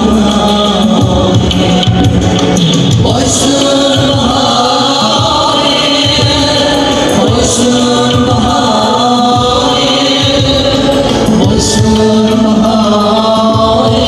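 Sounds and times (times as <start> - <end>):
amplified backing music with beat: 0.0 - 14.0
man singing into microphone: 0.0 - 14.0.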